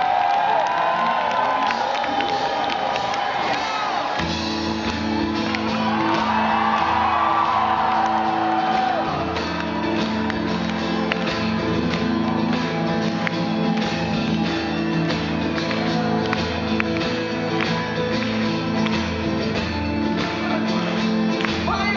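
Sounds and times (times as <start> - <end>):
crowd cheering and whistling: 0.0 - 21.9
rock band playing: 0.1 - 21.9.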